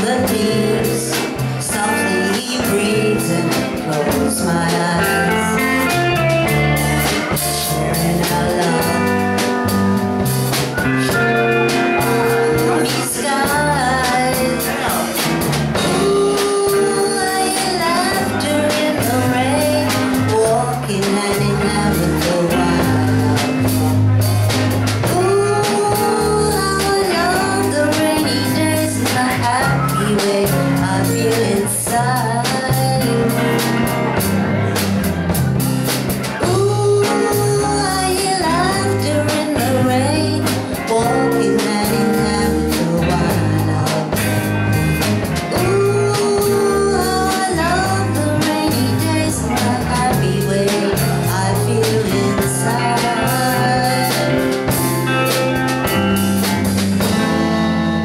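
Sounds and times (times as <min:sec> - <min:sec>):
woman singing: 0:00.0 - 0:24.2, 0:25.0 - 0:34.2, 0:36.2 - 0:57.8
bass guitar: 0:00.0 - 0:58.0
drum kit beat: 0:00.0 - 0:58.0
electric guitar: 0:00.0 - 0:58.0.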